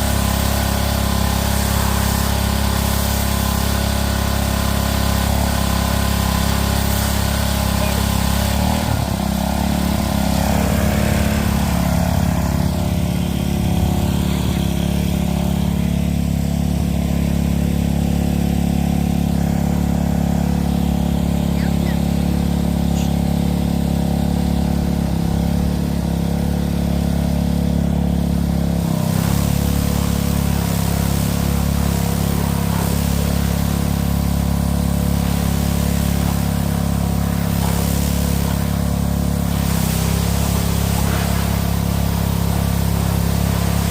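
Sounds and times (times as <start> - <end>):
small gas engine running: 0.0 - 43.9.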